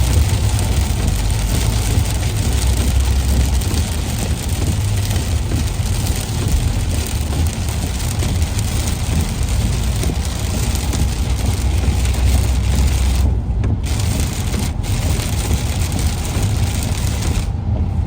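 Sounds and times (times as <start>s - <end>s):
rain hissing: 0.0s - 17.6s
highway vehicles rumbling: 0.0s - 18.0s.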